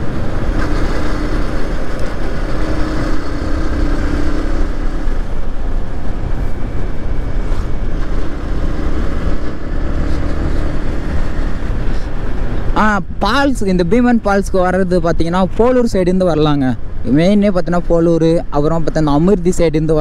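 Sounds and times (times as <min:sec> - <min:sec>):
wind rush on microphone: 0:00.0 - 0:18.5.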